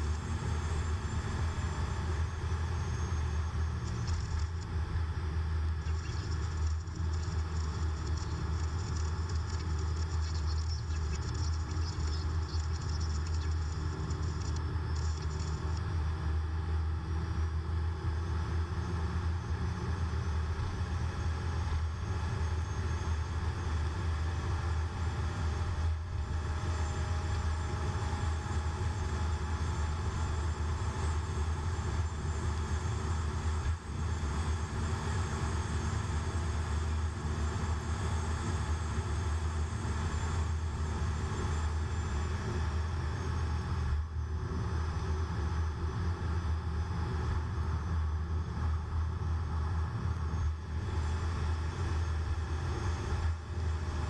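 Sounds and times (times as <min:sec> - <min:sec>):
engine and road drone: 0:00.0 - 0:54.0.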